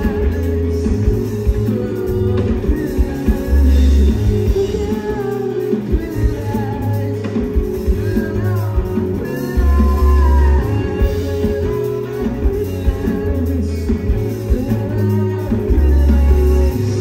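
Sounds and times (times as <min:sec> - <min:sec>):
deep bass notes: 0:00.0 - 0:17.0
drums: 0:00.0 - 0:17.0
electric guitar: 0:00.0 - 0:17.0
person singing: 0:00.0 - 0:17.0.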